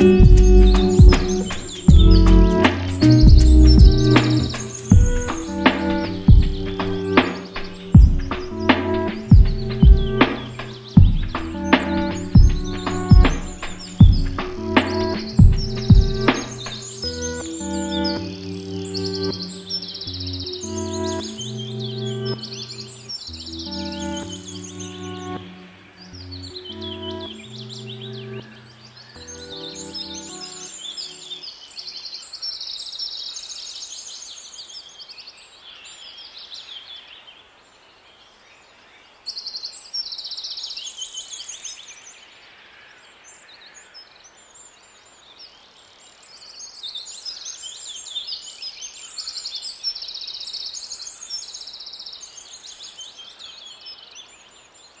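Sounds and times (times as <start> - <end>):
birds singing: 0.0 - 55.0.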